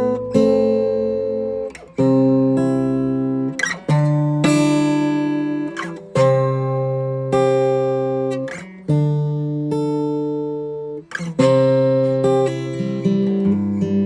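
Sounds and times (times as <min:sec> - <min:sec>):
strummed acoustic guitar chords: 0:00.0 - 0:14.0.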